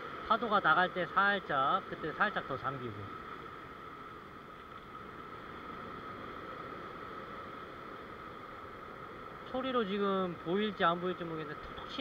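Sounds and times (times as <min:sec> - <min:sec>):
ocean surf washing over rocks: 0:00.0 - 0:12.0.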